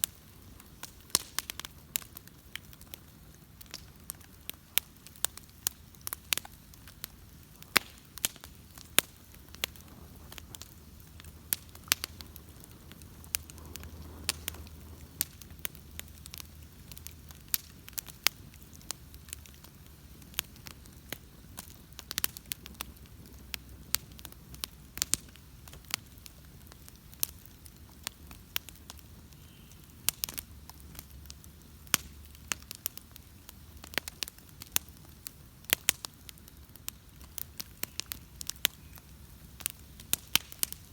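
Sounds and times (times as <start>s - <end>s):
bonfire crackling and popping: 0.0s - 40.9s
low rumble of fire: 0.0s - 40.9s.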